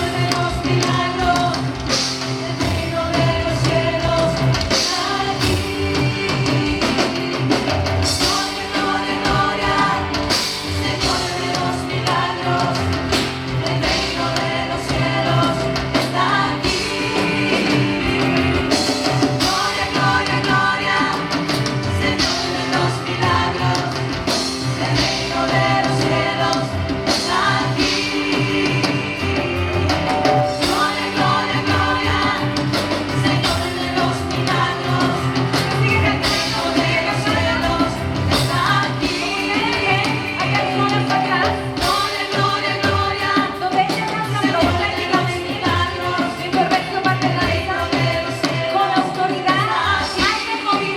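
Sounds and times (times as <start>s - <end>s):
band playing up-tempo song: 0.0s - 50.9s
person singing: 0.0s - 50.9s.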